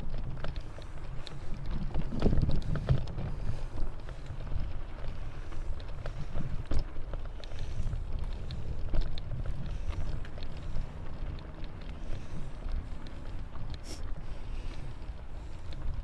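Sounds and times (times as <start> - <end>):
bicycle rattling on rough trail: 0.0 - 16.0
wind buffeting microphone: 0.0 - 16.0.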